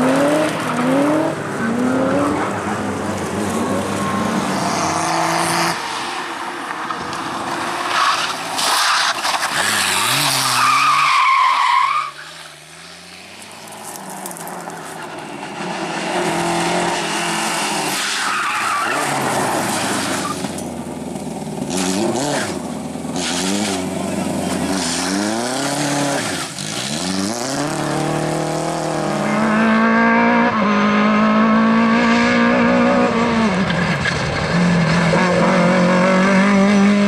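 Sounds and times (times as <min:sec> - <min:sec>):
rally car engines revving: 0:00.0 - 0:37.0.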